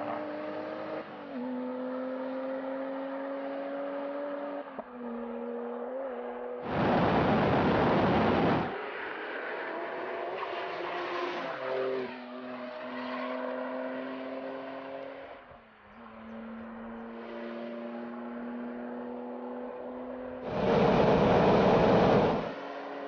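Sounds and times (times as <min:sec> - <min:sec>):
race car engine at speed: 0:00.0 - 0:23.0.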